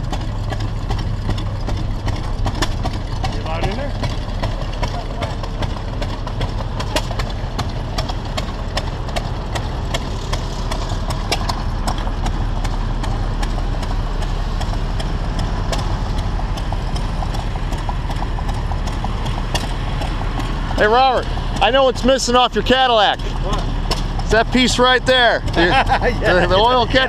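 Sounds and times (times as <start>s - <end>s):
machinery clicking: 0.0s - 25.8s
machinery humming: 0.0s - 27.0s.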